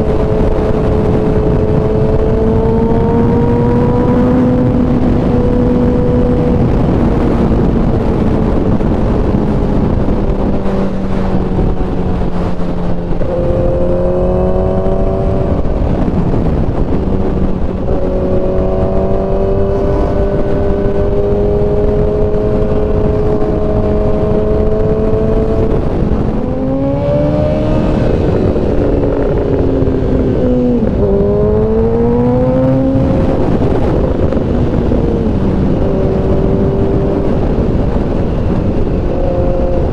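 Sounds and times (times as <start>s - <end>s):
heavy wind rush: 0.0s - 39.9s
motorcycle engine on the move: 0.0s - 39.9s.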